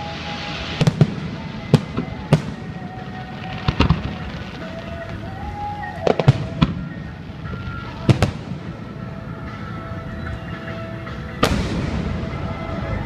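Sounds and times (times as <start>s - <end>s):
fireworks bangs: 0.0s - 9.7s, 11.3s - 13.0s.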